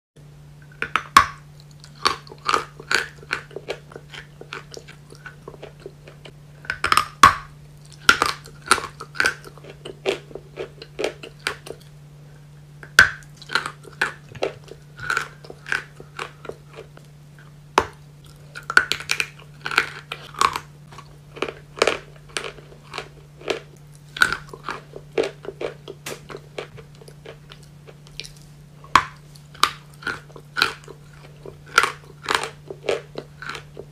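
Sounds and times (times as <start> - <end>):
chalk crunching and chewing: 0.6 - 11.9, 12.8 - 33.9.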